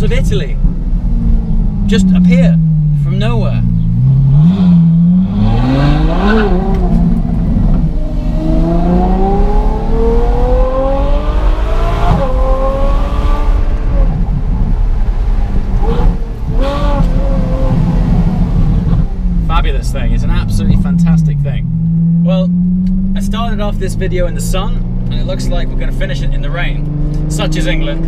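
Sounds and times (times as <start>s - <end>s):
sports car engine accelerating hard: 0.6s - 28.0s.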